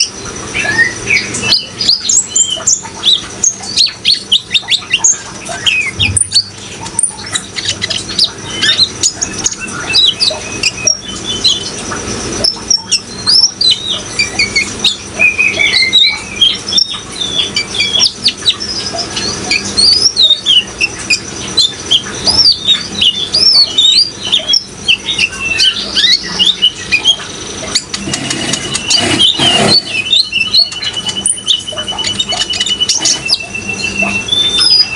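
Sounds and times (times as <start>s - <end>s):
bird chirping and trilling: 0.0s - 34.9s
running water: 0.0s - 34.9s.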